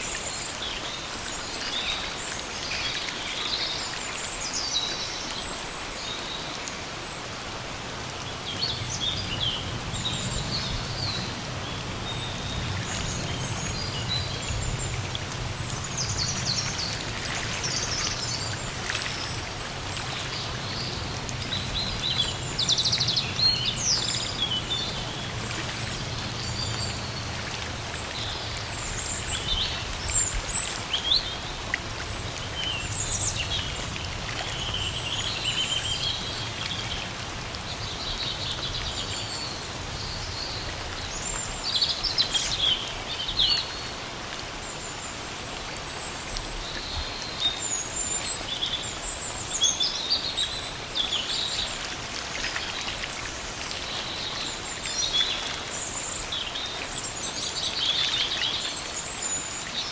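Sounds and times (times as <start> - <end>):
rain hissing through trees: 0.0 - 59.9.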